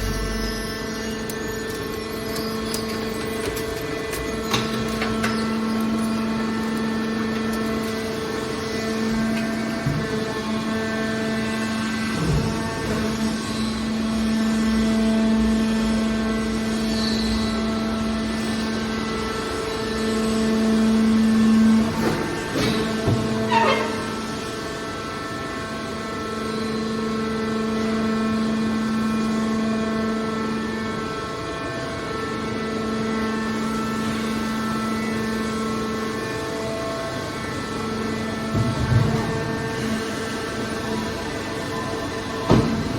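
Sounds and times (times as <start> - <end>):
hydraulic power unit humming: 0.0 - 42.9.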